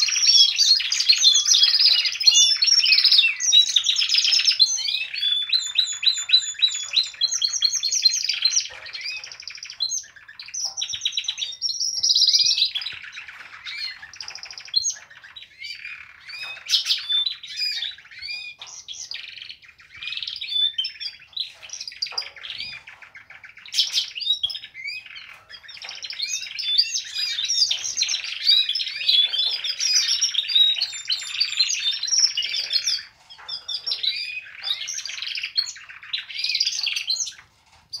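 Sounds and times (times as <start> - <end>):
canaries singing: 0.0 - 38.0.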